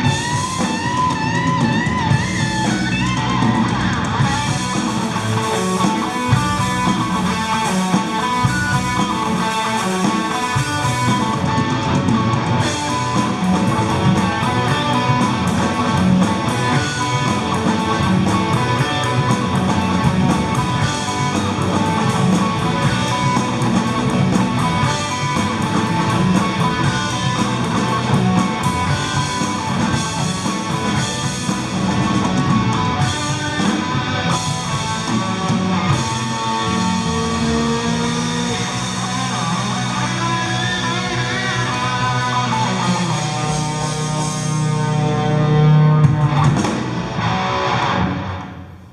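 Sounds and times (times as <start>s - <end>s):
drum kit: 0.0s - 48.9s
electric guitar: 0.0s - 48.9s.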